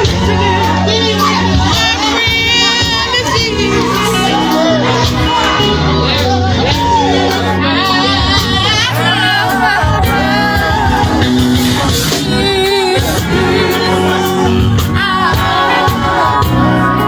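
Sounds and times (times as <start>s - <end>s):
person singing with heavy vibrato: 0.0s - 17.0s
regular drum beat: 0.0s - 17.0s
steady bass: 0.0s - 17.0s.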